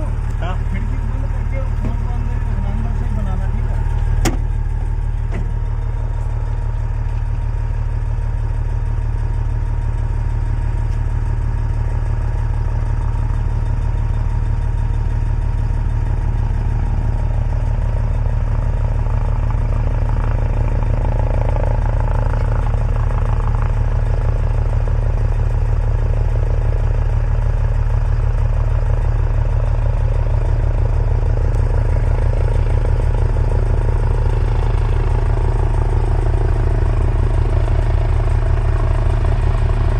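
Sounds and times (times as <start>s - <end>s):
helicopter rotor and turbine: 0.0s - 10.6s, 11.3s - 39.9s.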